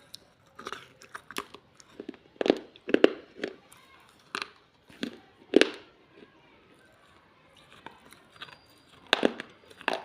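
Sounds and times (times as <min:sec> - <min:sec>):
clay pieces crunching in mouth: 0:00.0 - 0:10.0.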